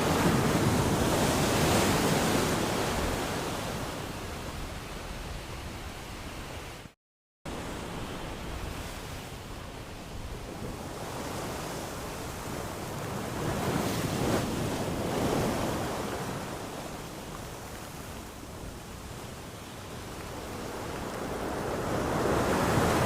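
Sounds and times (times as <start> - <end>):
ocean waves breaking: 0.0 - 5.4, 7.5 - 23.0.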